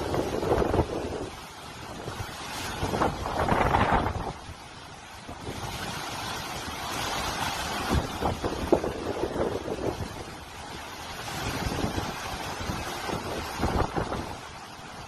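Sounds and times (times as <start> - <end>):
rough churning water: 0.0 - 15.0
wind buffeting microphone: 0.0 - 15.0.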